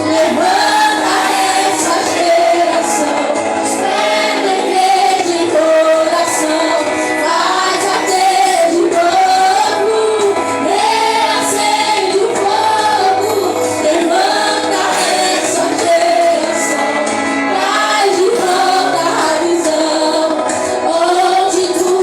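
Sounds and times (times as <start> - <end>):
women singing together: 0.0 - 22.0.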